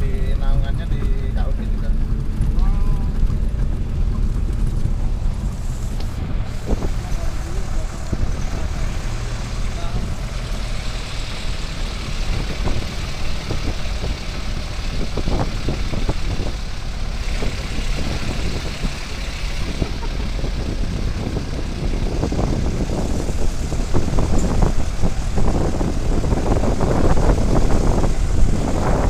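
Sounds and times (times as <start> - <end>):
road noise: 0.0 - 29.0
vehicle engine running: 0.0 - 29.0.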